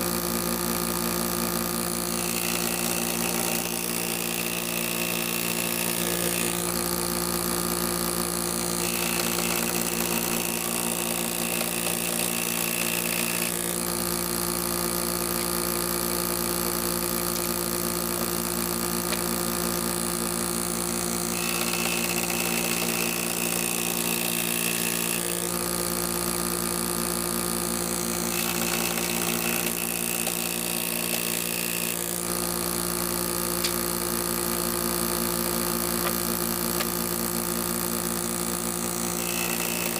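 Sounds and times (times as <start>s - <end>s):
power tool motor humming: 0.0s - 39.9s.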